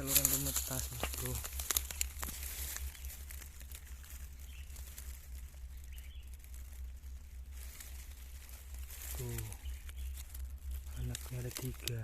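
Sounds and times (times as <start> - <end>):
dry grass rustling: 0.0 - 12.0
microphone handling rumble: 0.0 - 12.0.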